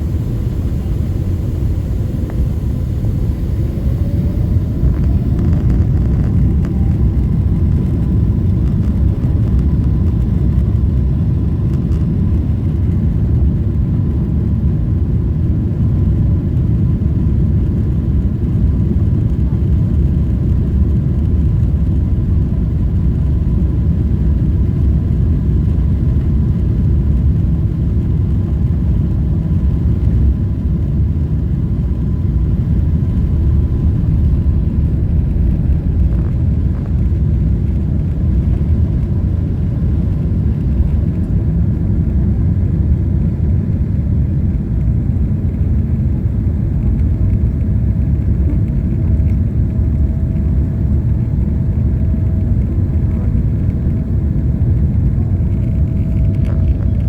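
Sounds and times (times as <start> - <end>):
faint steady whine: 0.0 - 57.0
jet engine cabin rumble: 0.0 - 57.0.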